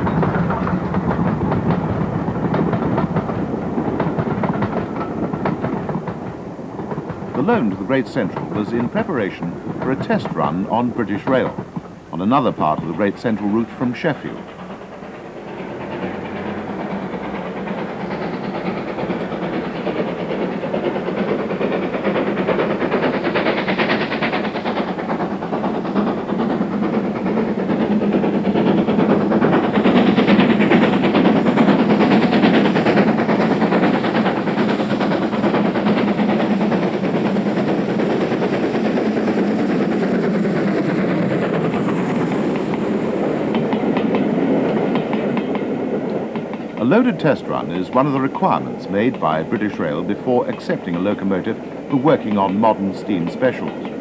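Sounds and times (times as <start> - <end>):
steam locomotive exhaust beat: 0.0 - 54.0.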